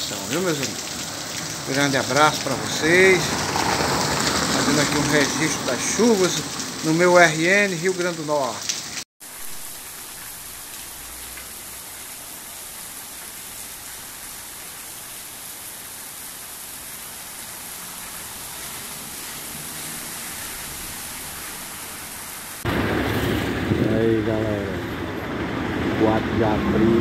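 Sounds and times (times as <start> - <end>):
heavy rain on a street: 0.0 - 27.0.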